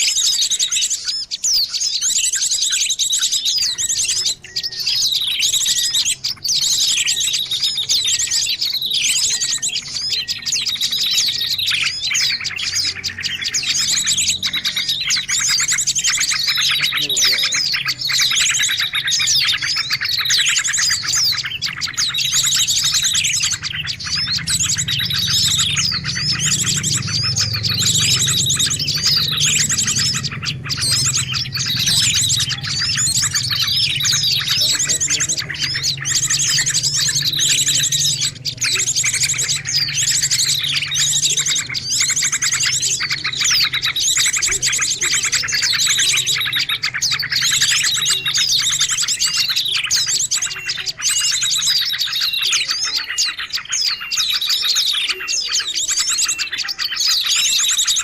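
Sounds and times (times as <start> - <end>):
fast buzzy bird trill: 0.0 - 58.0
songbirds chirping and singing: 0.0 - 58.0.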